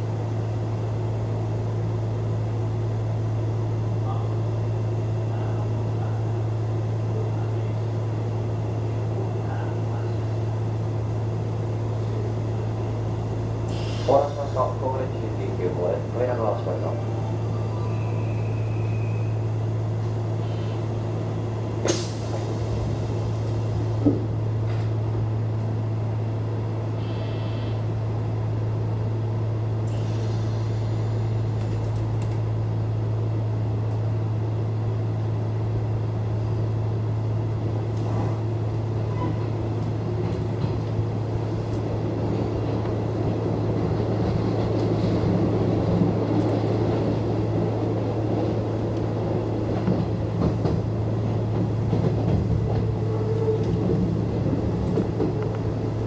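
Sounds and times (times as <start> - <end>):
train low hum: 0.0 - 56.0
train running noise: 0.0 - 56.0.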